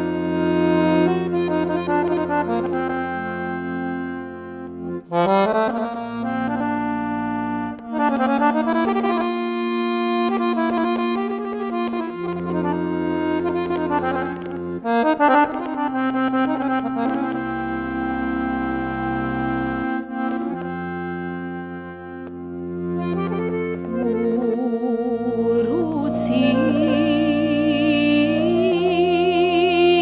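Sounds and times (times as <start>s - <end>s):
accordion melody with bass chords: 0.0s - 30.0s.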